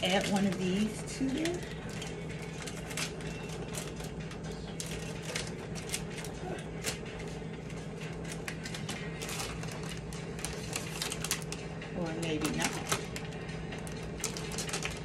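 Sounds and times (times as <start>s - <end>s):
low hum: 0.0s - 15.0s
plastic wrap crinkling: 0.0s - 15.0s.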